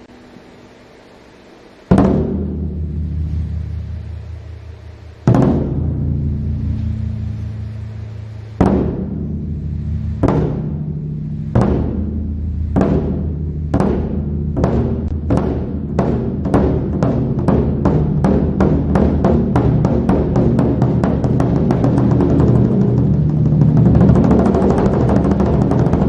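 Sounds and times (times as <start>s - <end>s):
low sustained hum: 0.0s - 26.0s
barrel drum heavy beats: 1.8s - 26.0s.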